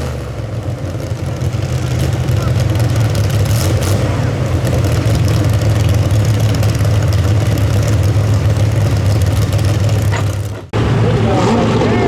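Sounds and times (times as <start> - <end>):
truck engine running loud: 0.0 - 12.0.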